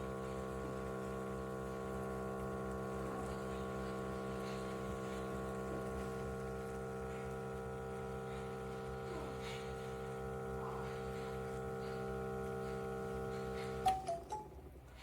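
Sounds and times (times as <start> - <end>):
espresso machine humming: 0.0 - 14.3.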